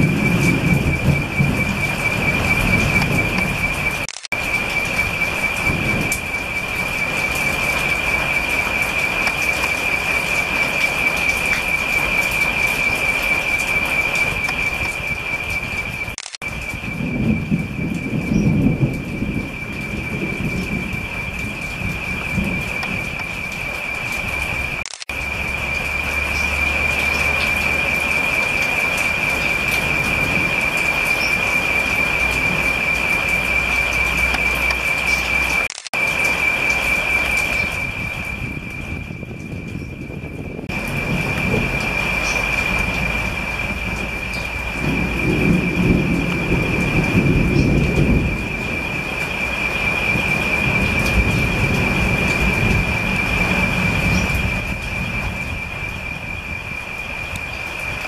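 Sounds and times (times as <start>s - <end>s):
heavy rain on foliage: 0.0s - 58.0s
insect trill: 0.0s - 58.0s.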